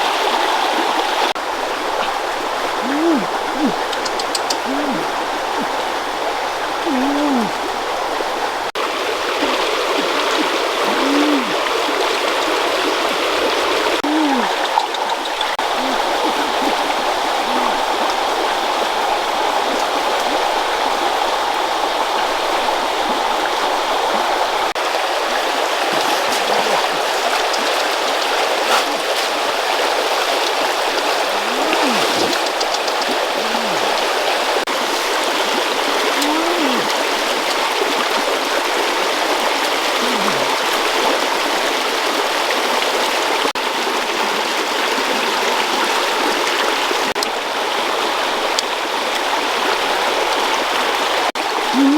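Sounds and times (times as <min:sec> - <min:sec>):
forest stream flowing: 0:00.0 - 0:51.9.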